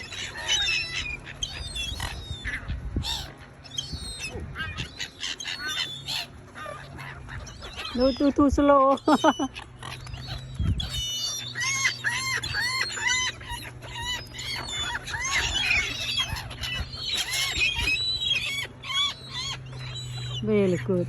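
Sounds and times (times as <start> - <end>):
gulls squealing calls: 0.0 - 21.0.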